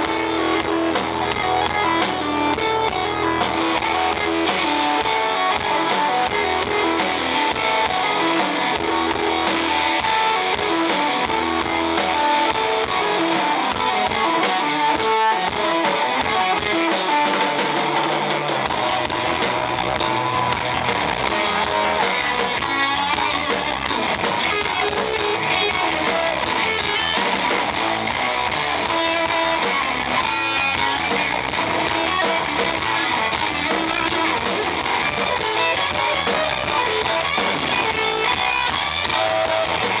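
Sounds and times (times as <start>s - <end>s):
distorted live band with guitars: 0.0s - 40.0s.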